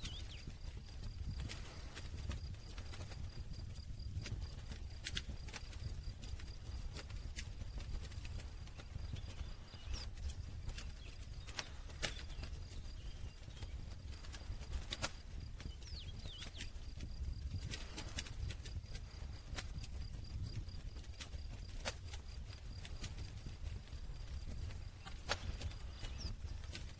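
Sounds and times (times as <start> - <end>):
campfire crackling: 0.0 - 26.9.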